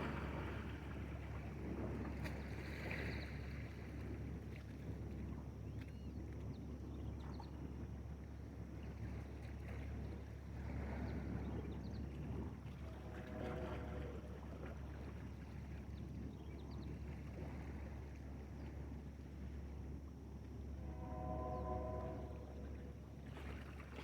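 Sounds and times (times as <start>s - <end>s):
boat motor low hum: 0.0s - 24.0s
wind: 0.0s - 24.0s.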